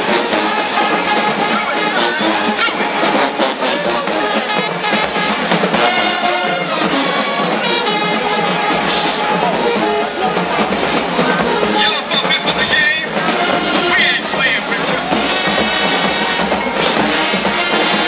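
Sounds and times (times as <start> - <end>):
marching drumline: 0.0 - 18.0
trombones and trumpets: 0.0 - 18.0.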